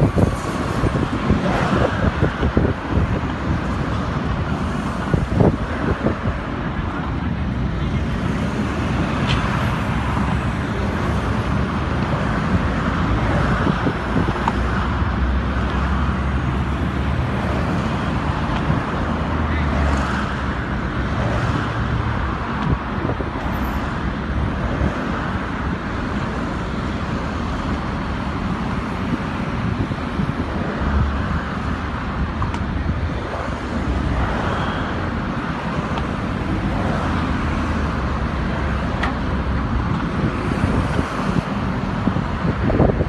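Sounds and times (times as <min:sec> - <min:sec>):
road traffic noise: 0:00.0 - 0:43.0
truck diesel engines rumbling: 0:00.0 - 0:43.0.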